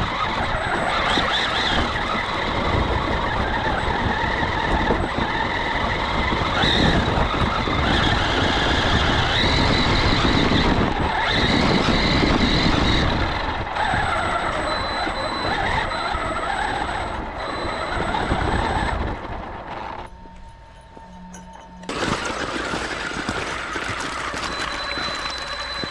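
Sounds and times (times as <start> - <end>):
tire noise: 0.0 - 25.9
toy truck motor whining: 0.0 - 25.9.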